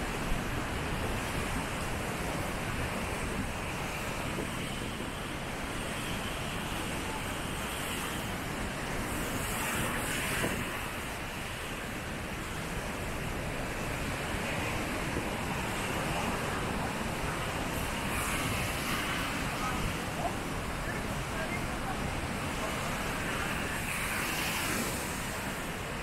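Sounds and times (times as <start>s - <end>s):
surf washing onto shore: 0.0s - 26.0s
wind buffeting microphone: 0.0s - 26.0s.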